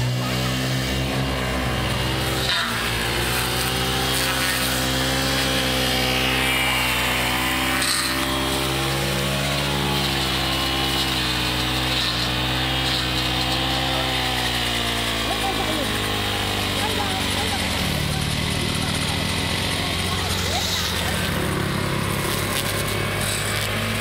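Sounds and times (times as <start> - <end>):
brush cutter engine running: 0.0 - 24.0.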